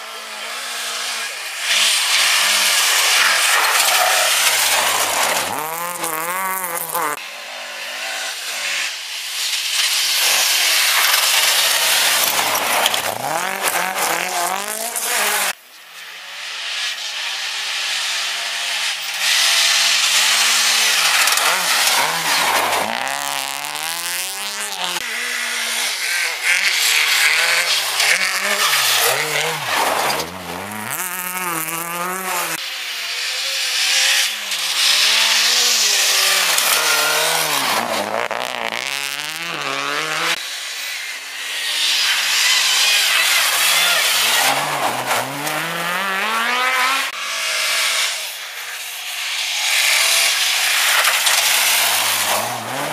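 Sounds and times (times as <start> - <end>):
rally car engines revving: 0.0 - 52.9
tyres hissing on snowy road: 0.0 - 52.9.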